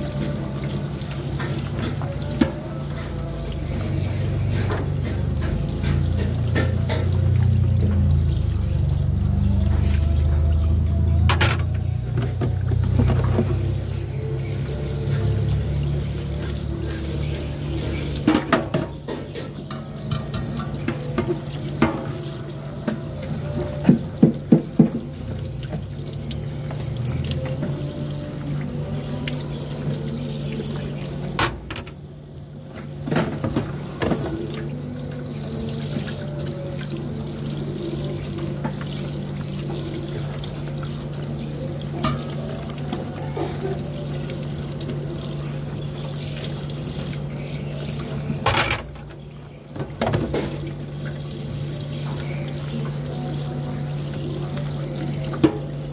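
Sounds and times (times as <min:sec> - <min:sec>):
tap water running into sink: 0:00.0 - 0:55.9.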